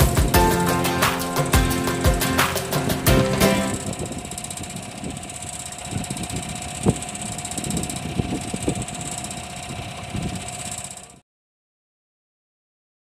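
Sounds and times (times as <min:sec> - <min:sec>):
small engine idling: 0:00.0 - 0:11.2.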